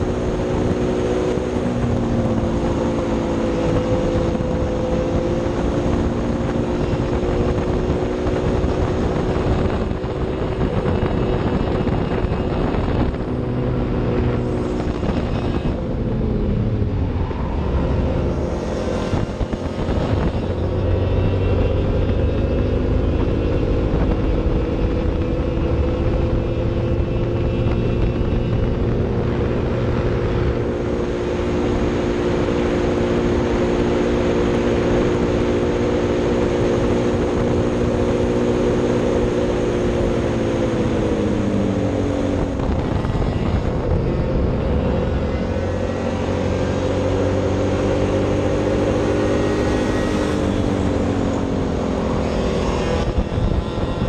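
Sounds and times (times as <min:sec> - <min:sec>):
kart engine at high revs: 0:00.0 - 0:54.0.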